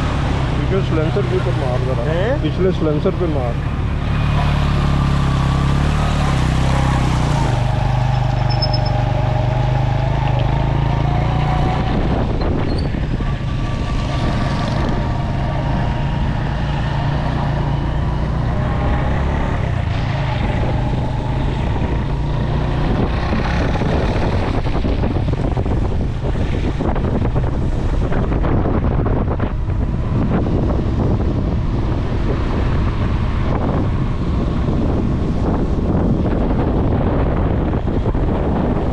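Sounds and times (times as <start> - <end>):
road noise on wet street: 0.0 - 38.9
wind noise on microphone: 0.0 - 38.9.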